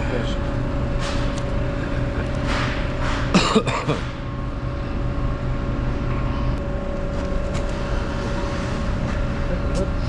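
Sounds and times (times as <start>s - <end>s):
machine drone with steady hum: 0.0s - 10.0s.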